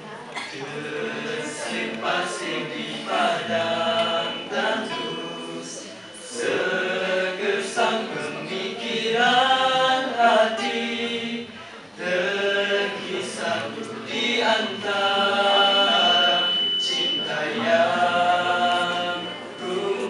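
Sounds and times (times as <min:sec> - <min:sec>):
male voices singing together: 0:00.6 - 0:20.0.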